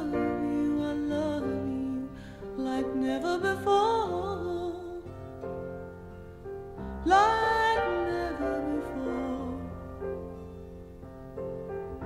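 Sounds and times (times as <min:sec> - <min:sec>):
gentle melody with gliding notes: 0:00.0 - 0:12.0.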